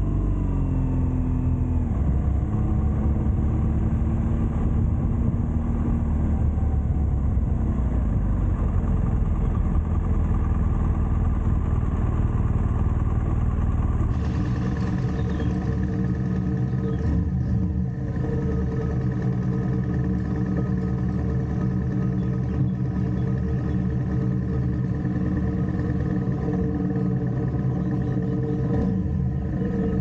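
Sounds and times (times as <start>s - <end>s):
motorcycle engine running: 0.0s - 30.0s
road rumble: 0.0s - 30.0s.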